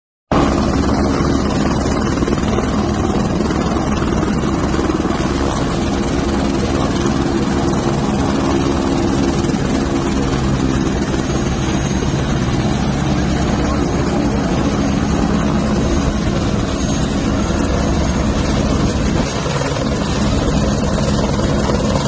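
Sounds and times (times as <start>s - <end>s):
helicopter rotor and engine: 0.3s - 22.0s.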